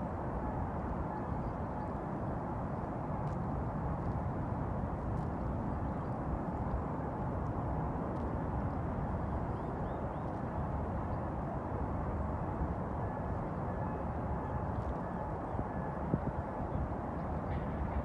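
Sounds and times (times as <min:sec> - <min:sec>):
distant harbour noise: 0:00.0 - 0:18.0
wind: 0:00.0 - 0:18.0.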